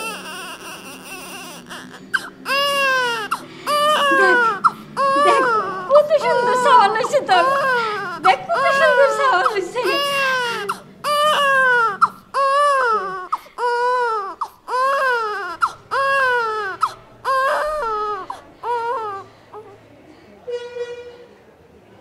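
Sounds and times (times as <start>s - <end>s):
newborn baby crying: 0.0s - 19.8s.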